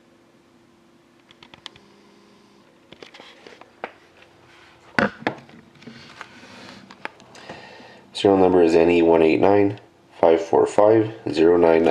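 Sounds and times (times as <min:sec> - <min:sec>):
room hum: 0:00.0 - 0:11.9.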